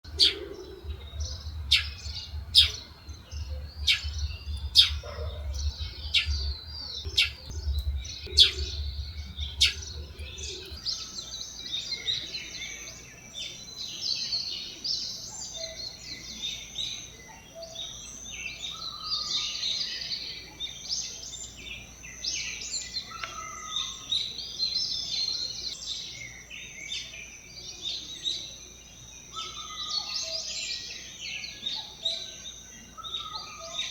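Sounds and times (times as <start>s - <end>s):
birds chirping and calling: 0.0s - 33.9s.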